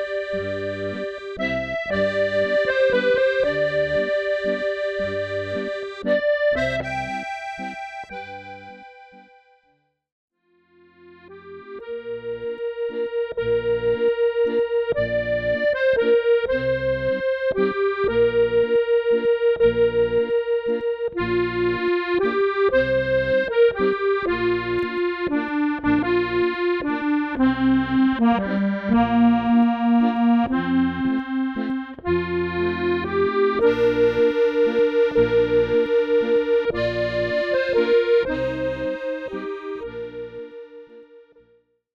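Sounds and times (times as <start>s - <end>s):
accordion playing slow melody: 0.0s - 9.7s, 10.5s - 41.7s.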